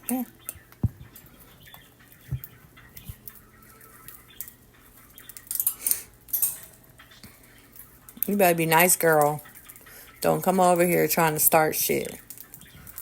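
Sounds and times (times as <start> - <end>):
budgies clicking and tapping: 0.0 - 13.0.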